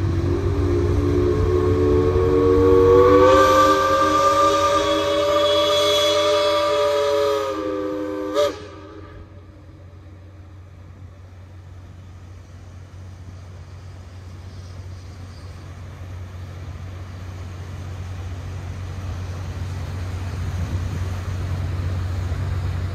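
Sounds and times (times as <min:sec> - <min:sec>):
paddle wheel churning water: 0:00.0 - 0:15.0, 0:15.9 - 0:22.9
paddle steamer engine hum: 0:00.0 - 0:22.9.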